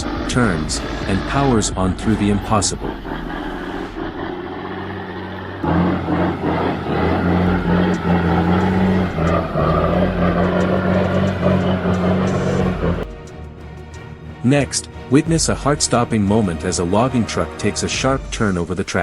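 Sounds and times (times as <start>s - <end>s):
truck engine under heavy load: 0.0s - 19.0s.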